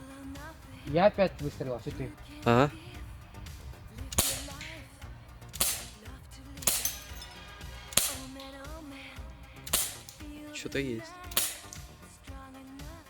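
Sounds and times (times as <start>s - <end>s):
gunshots: 1.2s - 12.9s.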